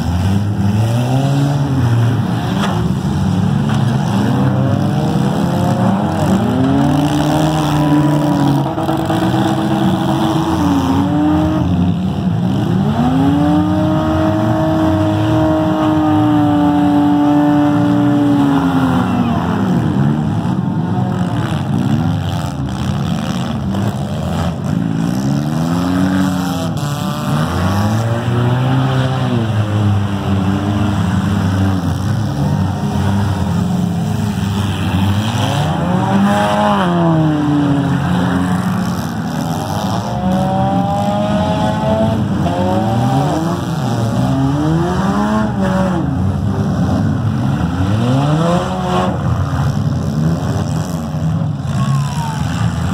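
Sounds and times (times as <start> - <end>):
car engines revving hard: 0.0 - 52.9.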